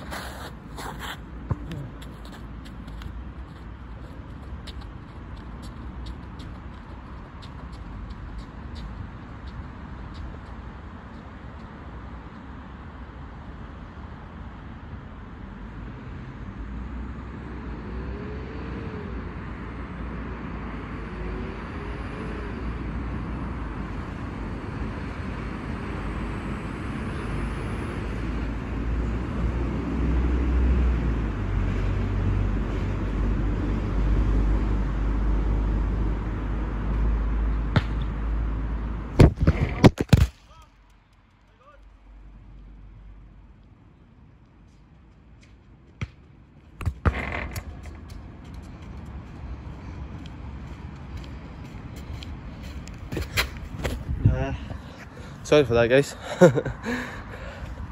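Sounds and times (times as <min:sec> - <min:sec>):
outdoor rumble and hiss: 0:00.0 - 0:57.9.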